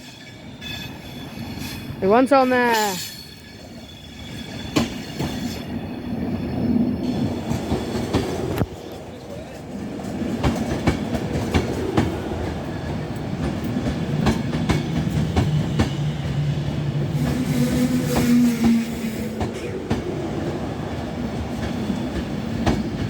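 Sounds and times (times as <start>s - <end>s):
low train hum: 0.0s - 23.0s
train wheels clicking over rail joints: 3.0s - 5.9s, 7.0s - 23.0s.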